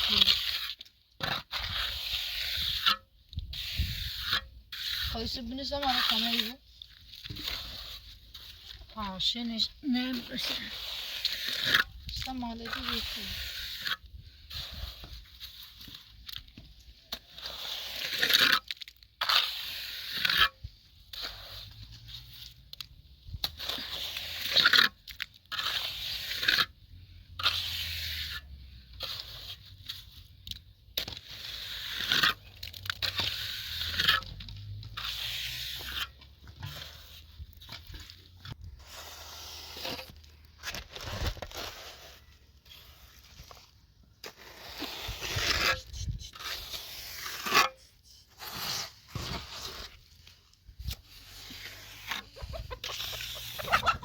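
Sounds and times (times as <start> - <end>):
rough scraping strokes: 0.0 - 54.0.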